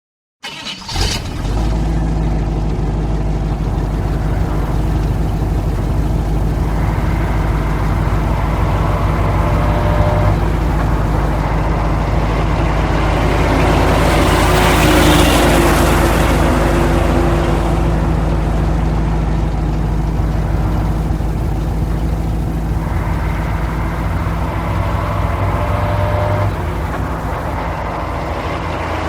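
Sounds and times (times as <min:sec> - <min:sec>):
truck engine deep hum: 0:00.4 - 0:29.0.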